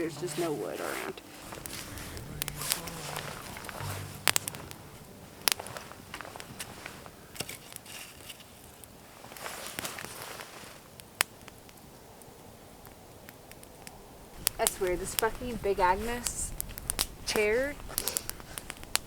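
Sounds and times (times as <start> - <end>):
rustling and handling: 0.0 - 11.6, 14.4 - 19.0.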